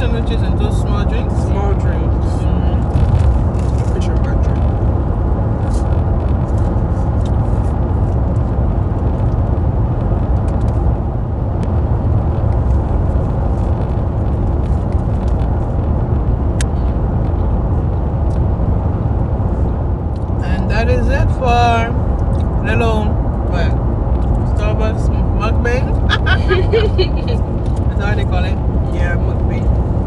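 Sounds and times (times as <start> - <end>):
car interior rumble: 0.0 - 30.0.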